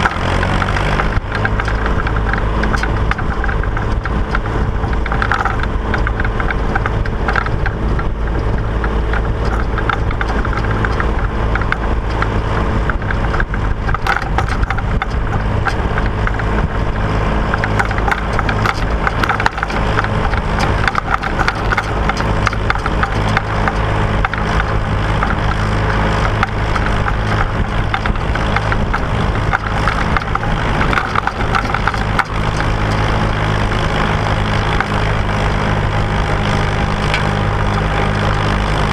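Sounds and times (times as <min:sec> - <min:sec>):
machinery rattling and clattering: 0:00.0 - 0:38.9
tractor engine running: 0:00.0 - 0:38.9.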